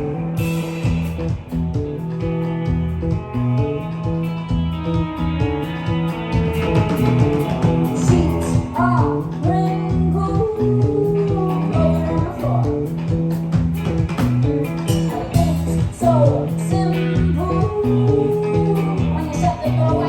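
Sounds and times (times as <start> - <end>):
bass and guitars: 0.0 - 20.0
drum kit beat: 0.0 - 20.0.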